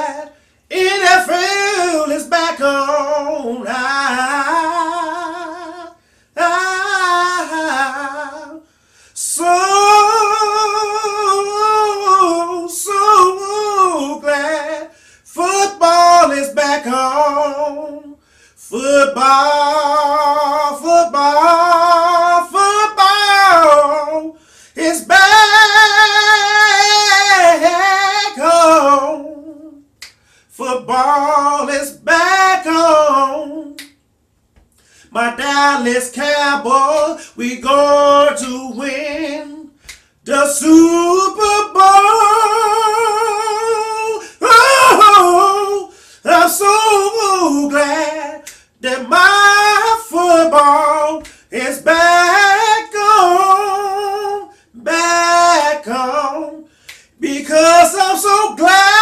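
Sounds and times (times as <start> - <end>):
man singing unaccompanied: 0.0 - 34.0, 34.8 - 59.0.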